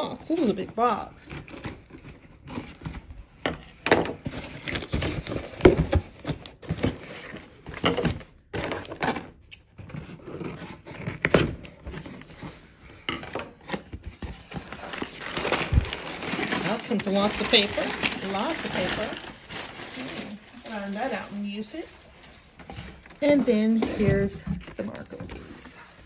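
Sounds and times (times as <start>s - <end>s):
cardboard flaps crinkling: 4.1s - 12.8s, 13.4s - 26.0s.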